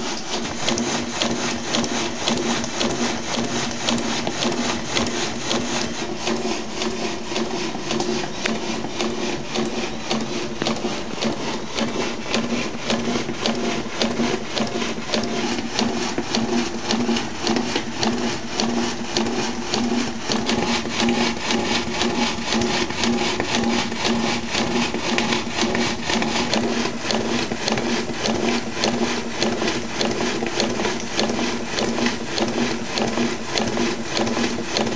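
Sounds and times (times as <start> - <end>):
steam engine mechanical clatter: 0.0 - 34.9.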